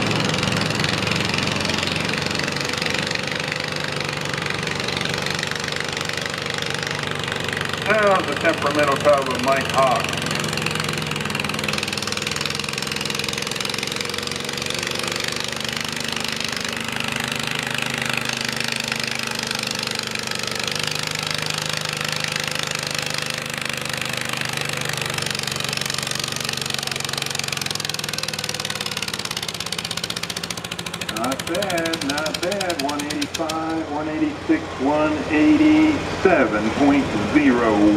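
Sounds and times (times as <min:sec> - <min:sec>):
tractor engine under load: 0:00.0 - 0:37.9.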